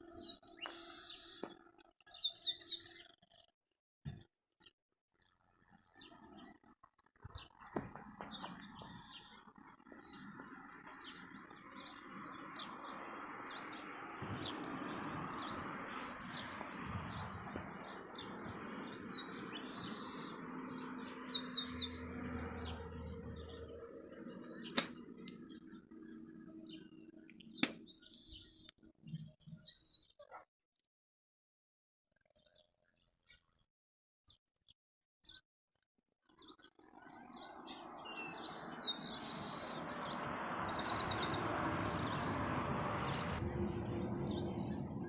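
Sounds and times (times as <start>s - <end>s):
small birds chirping: 0.0s - 30.5s, 32.1s - 33.7s, 34.3s - 35.4s, 36.2s - 45.0s.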